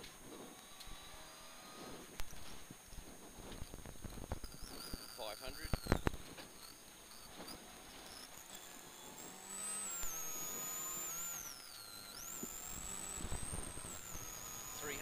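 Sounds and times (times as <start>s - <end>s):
high electrical whine: 0.0s - 15.0s.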